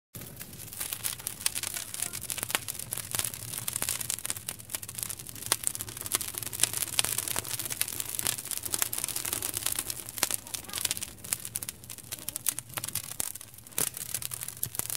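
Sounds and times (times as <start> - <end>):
wood fire crackling and popping: 0.2 - 14.9.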